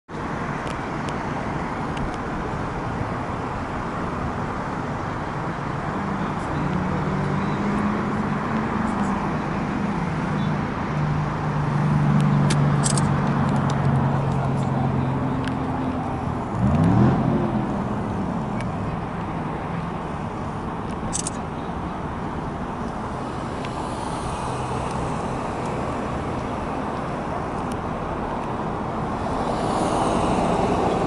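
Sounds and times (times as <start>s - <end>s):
rush of passing cars: 0.1s - 31.0s
low engine hum: 0.2s - 31.0s.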